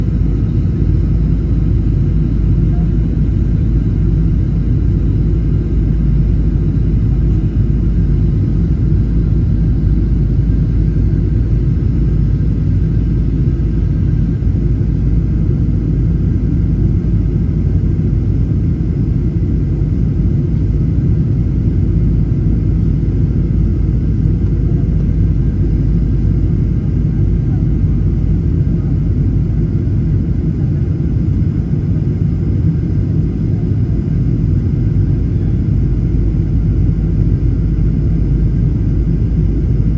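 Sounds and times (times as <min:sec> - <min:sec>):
airplane cabin rumble in flight: 0:00.0 - 0:39.9.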